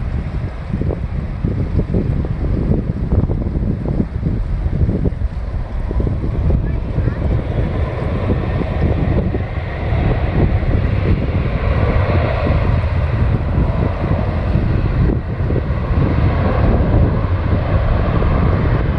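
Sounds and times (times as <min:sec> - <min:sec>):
jet engines rumbling: 0:00.0 - 0:18.9
wind buffeting microphone: 0:00.0 - 0:18.9.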